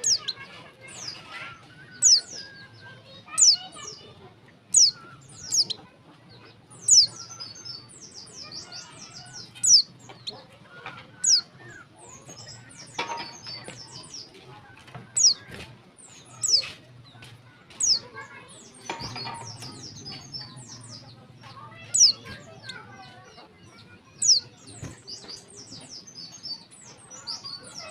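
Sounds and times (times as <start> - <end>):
soft bird twittering: 0.0 - 27.9.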